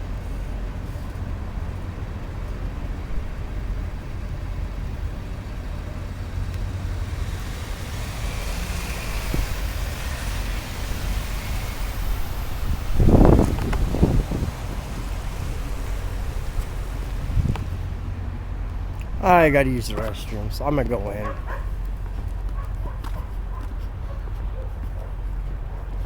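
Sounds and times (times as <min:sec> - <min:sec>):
road traffic rumble: 0:00.0 - 0:26.0
wind buffeting microphone: 0:00.0 - 0:26.0.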